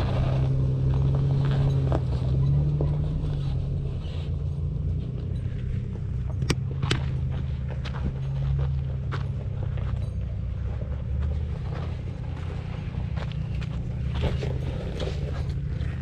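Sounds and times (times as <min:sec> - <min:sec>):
suv engine running at low revs: 0:00.0 - 0:16.0.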